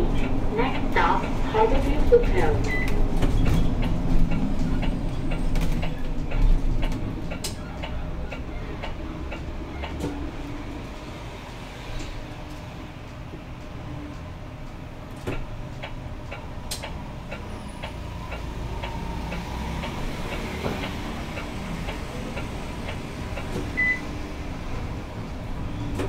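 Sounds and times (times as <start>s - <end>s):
bus running: 0.0s - 26.0s
turn signal ticking: 0.1s - 10.6s, 12.5s - 26.0s.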